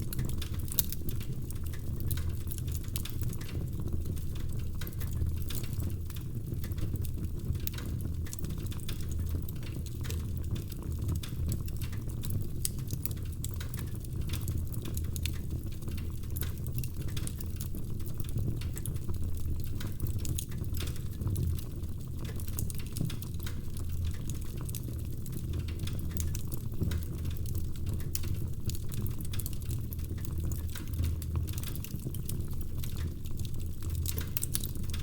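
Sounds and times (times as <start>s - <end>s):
logs crackling in fireplace: 0.0s - 35.0s.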